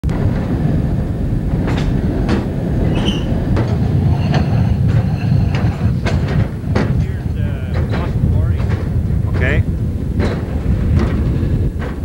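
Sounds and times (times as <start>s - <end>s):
truck rumbling on rails: 0.0s - 12.0s
wheels clicking over rail joints: 0.0s - 12.0s.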